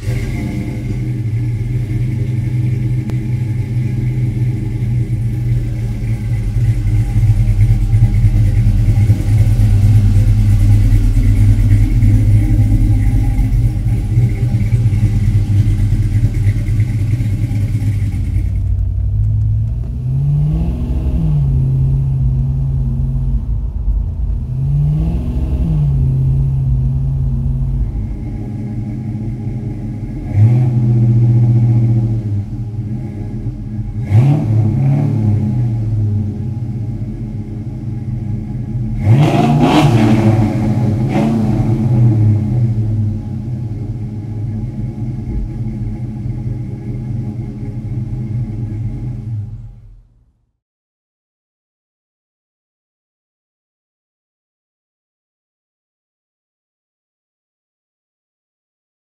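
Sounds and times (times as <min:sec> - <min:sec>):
car engine idling and blipping: 0:00.0 - 0:50.3.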